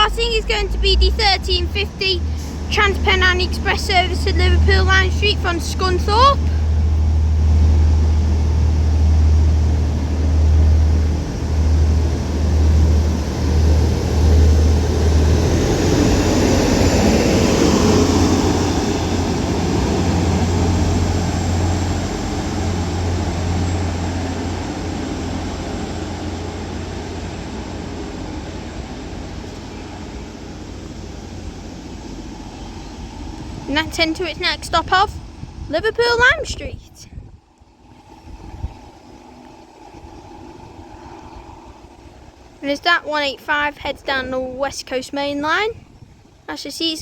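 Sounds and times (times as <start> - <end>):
diesel train engines droning: 0.0 - 47.0
train passing: 0.0 - 47.0.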